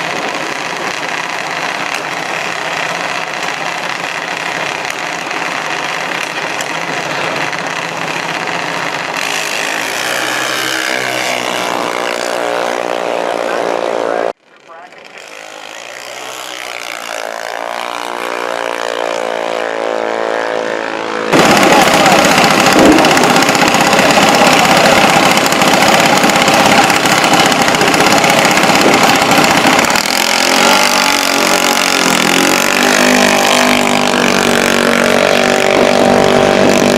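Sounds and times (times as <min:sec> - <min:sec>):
drag racing engine roaring: 0:00.0 - 0:36.9.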